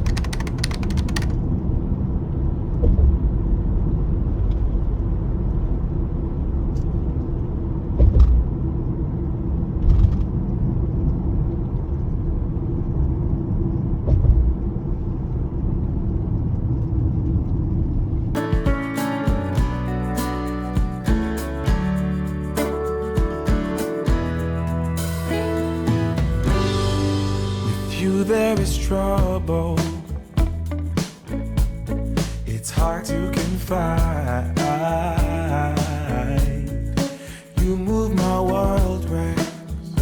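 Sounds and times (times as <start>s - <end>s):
road vehicles rumbling: 0.0s - 40.0s
low bumps: 2.6s - 10.7s, 13.8s - 40.0s.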